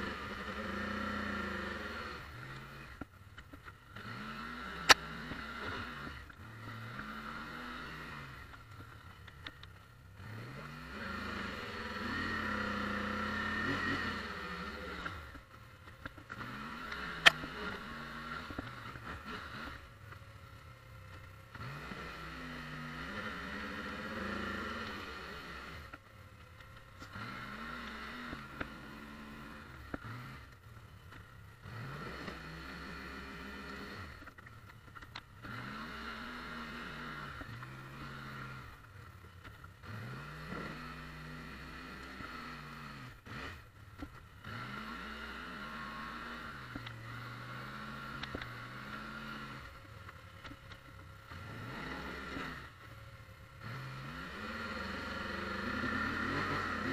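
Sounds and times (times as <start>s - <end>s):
atv engine revving: 0.0s - 56.9s
plow pushing snow: 0.0s - 56.9s.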